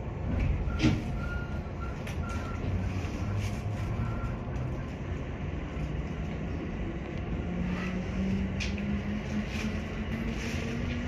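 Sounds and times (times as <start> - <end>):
electric train running rumble: 0.0 - 11.0.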